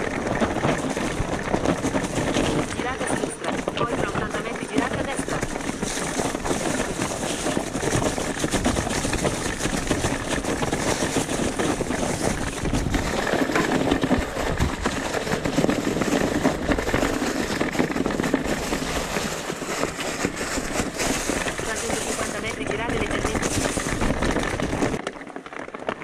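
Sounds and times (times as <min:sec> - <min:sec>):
bike rattling over bumps: 0:00.0 - 0:26.0
tyres over rock and gravel: 0:00.0 - 0:26.0.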